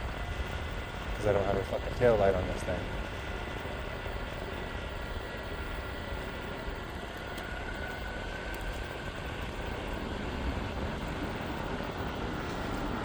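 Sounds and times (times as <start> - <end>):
high electric motor whine: 0.0 - 13.0.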